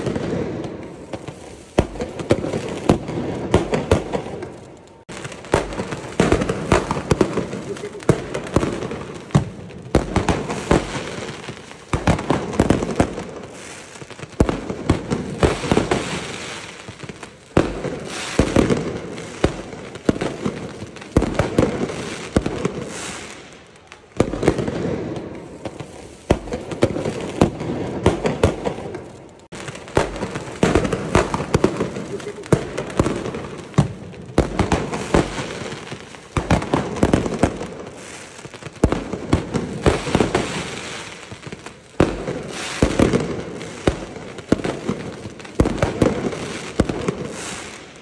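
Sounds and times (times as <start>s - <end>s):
fireworks banging: 0.0s - 48.0s
fireworks crackling: 0.0s - 48.0s.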